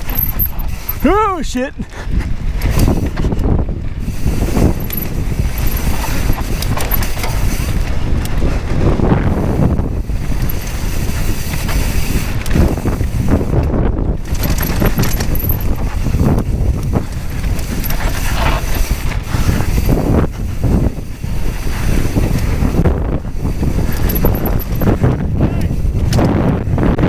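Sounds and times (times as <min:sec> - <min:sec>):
mountain bike rattling: 0:00.0 - 0:27.0
tyres on loose dirt: 0:00.0 - 0:27.0
wind on microphone: 0:00.0 - 0:27.0.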